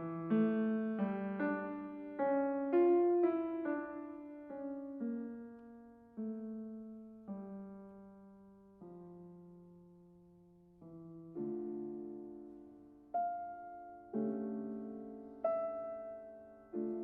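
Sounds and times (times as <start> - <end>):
slow solo piano: 0.0 - 17.0.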